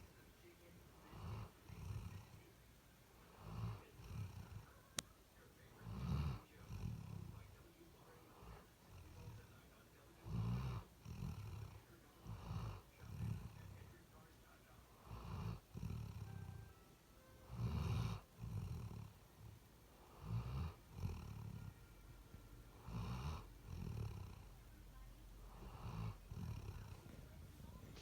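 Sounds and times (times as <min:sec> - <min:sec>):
pet snoring: 0:01.0 - 0:02.6, 0:03.2 - 0:04.8, 0:05.6 - 0:14.3, 0:14.9 - 0:16.8, 0:17.4 - 0:21.9, 0:22.7 - 0:24.6, 0:25.4 - 0:28.0.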